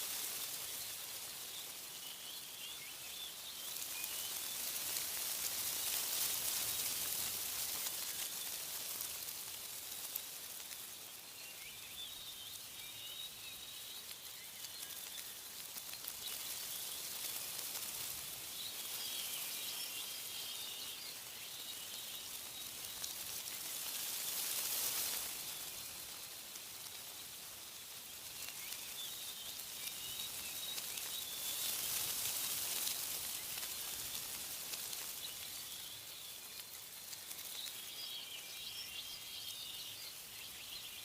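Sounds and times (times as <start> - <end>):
faint bird chirps: 0.0 - 41.0
wind rustling tree leaves: 0.0 - 41.0.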